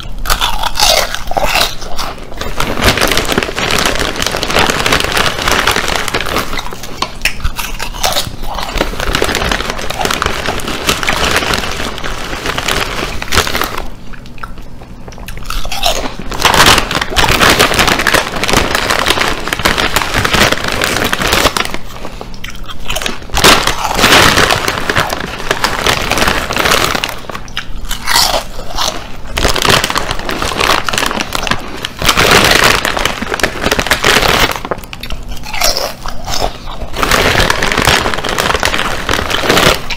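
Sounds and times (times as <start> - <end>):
crunching and chewing chips: 0.0 - 39.9.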